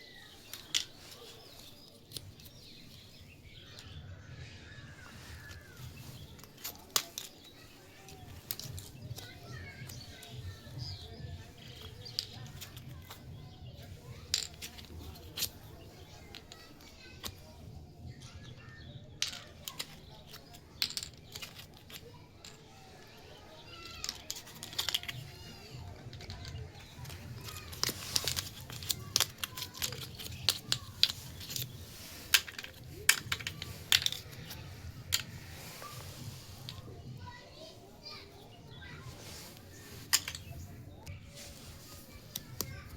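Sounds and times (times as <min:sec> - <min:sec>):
plastic toy pieces clicking: 0:00.1 - 0:04.0, 0:05.0 - 0:36.9, 0:39.5 - 0:42.9.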